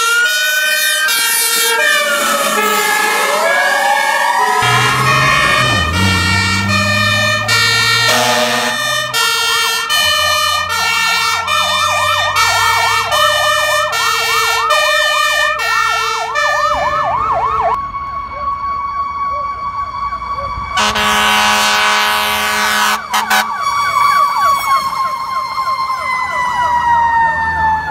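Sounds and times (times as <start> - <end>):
truck engine rumbling: 0.0 - 27.6
fast-warbling yelp siren: 0.0 - 27.9
steady siren tone: 0.0 - 27.9
two-tone siren horn: 0.0 - 27.9.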